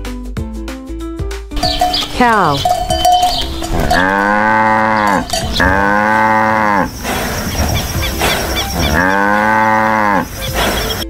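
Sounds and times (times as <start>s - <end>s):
cow mooing: 1.6s - 11.0s.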